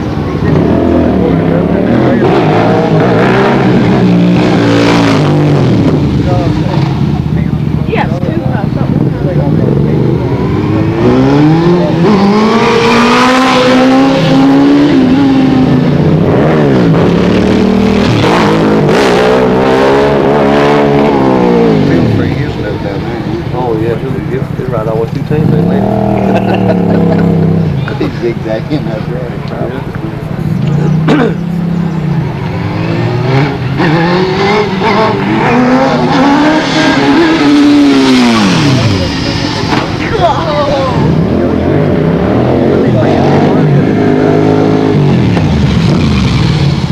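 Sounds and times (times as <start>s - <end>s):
motorcycles revving past: 0.0s - 46.9s.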